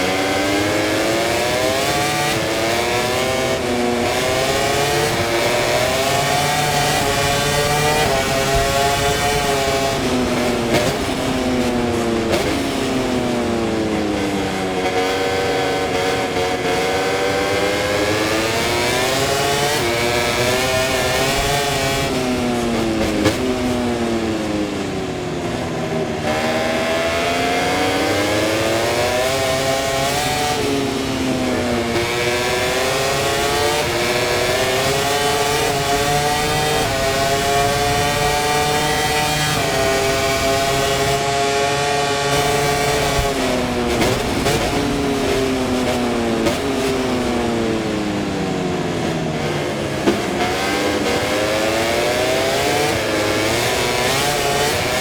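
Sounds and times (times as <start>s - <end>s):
racing motorcycle engine revving: 0.0s - 55.0s.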